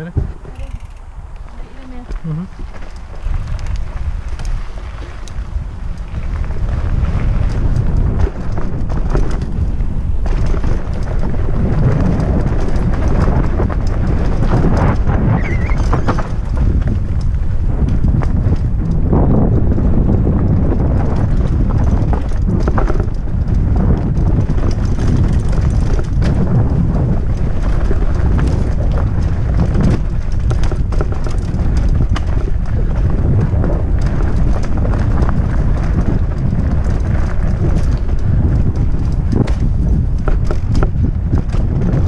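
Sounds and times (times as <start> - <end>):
bike knocking and rattling: 0.0 - 42.0
wind buffeting microphone: 0.0 - 42.0.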